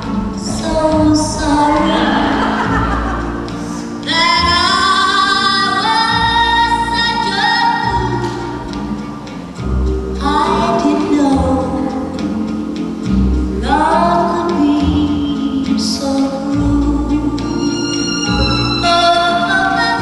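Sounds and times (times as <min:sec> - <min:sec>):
instrumental backing with bass: 0:00.0 - 0:20.0.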